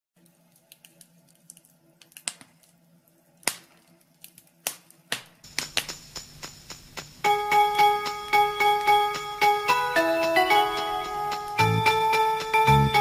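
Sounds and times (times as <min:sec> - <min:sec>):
wood fire crackling in fireplace: 0:00.2 - 0:13.0.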